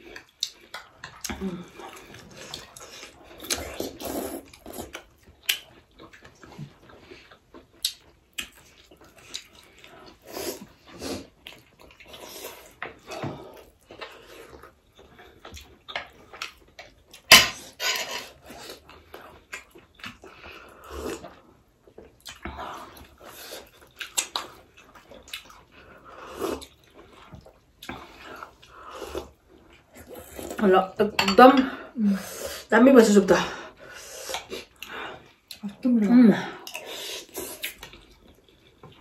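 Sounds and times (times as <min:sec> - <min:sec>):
wet chewing and slurping: 0:00.0 - 0:30.6, 0:33.7 - 0:35.6, 0:36.6 - 0:39.0.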